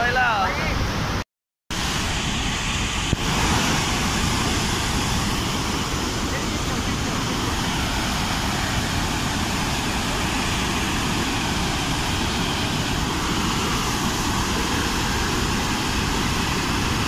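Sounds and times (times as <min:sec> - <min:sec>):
spillway water rushing: 0:00.0 - 0:17.0.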